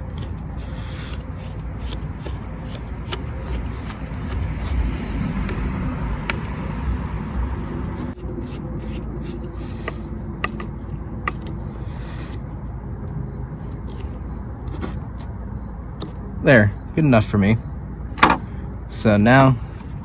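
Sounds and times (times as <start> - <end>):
handling rumble: 0.0 - 20.0
insect chirring: 0.0 - 20.0.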